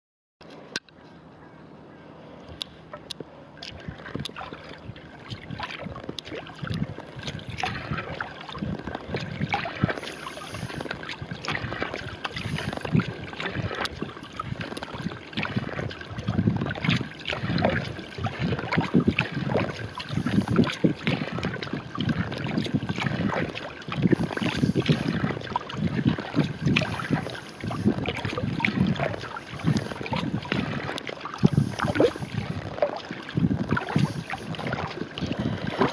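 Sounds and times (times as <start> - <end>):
paddle splashing in water: 2.9 - 35.9
wind buffeting microphone: 3.6 - 35.9.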